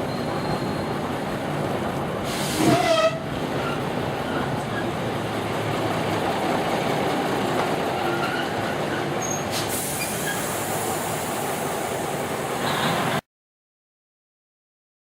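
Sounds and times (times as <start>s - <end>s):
rumble of wheels on rails: 0.0s - 13.2s.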